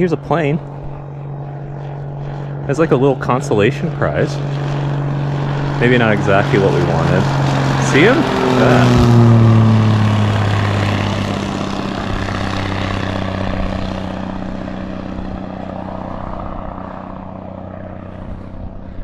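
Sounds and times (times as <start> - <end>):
plane engine drone: 0.0 - 19.0.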